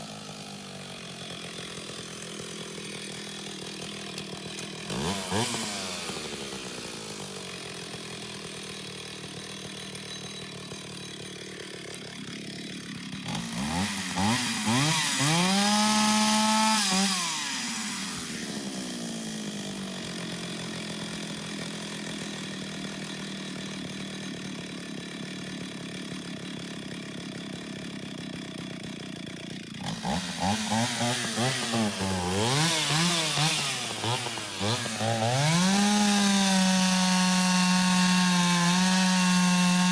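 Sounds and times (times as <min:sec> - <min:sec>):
chainsaw running and revving: 0:00.0 - 0:39.9.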